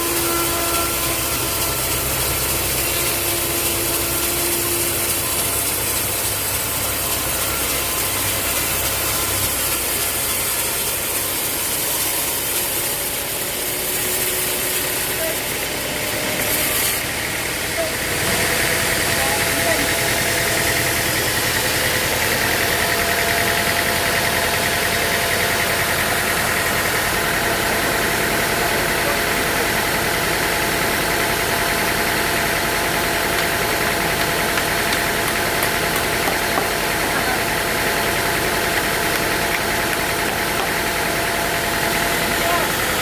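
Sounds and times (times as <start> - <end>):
sawmill machinery engine running: 0.0 - 43.0.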